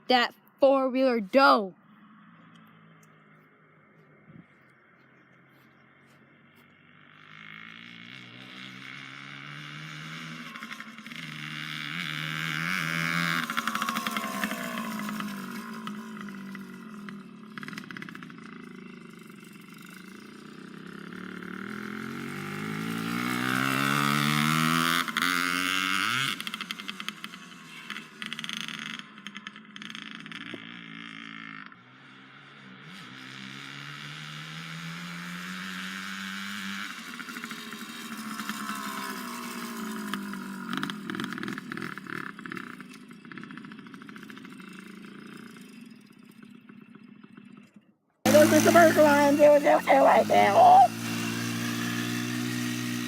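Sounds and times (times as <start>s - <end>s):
small atv engine revving: 5.6s - 53.0s.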